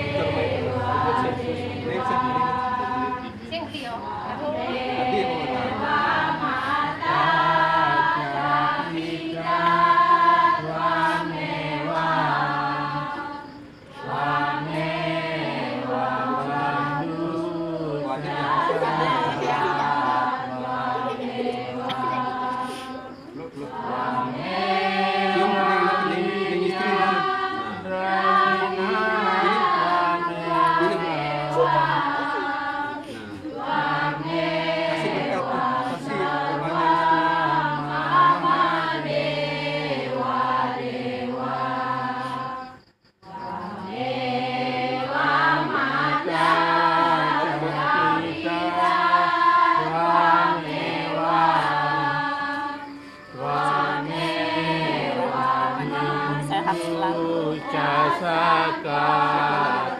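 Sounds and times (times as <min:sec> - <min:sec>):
voices chanting devotional song: 0:00.0 - 0:59.9.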